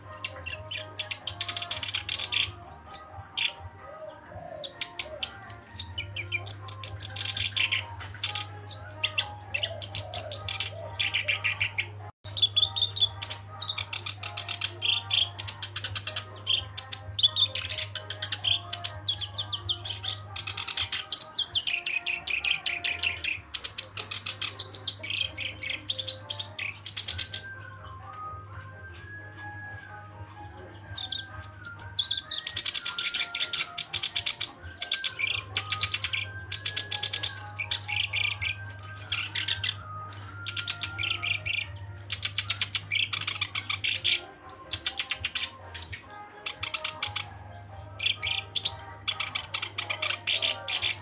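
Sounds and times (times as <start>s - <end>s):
warbler singing: 0.0s - 51.0s.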